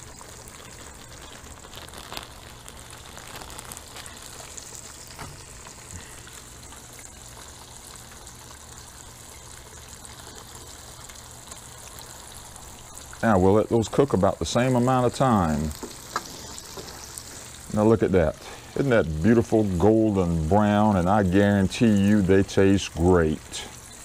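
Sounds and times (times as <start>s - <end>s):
fish sizzling in hot oil: 0.0s - 24.0s.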